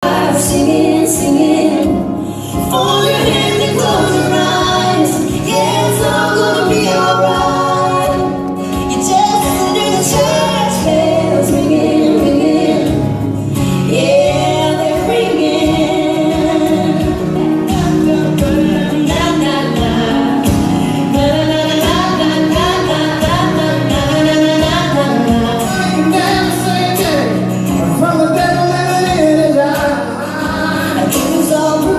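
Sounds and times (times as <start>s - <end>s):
acoustic instrumental accompaniment: 0.0s - 31.9s
woman singing country song: 0.0s - 31.9s.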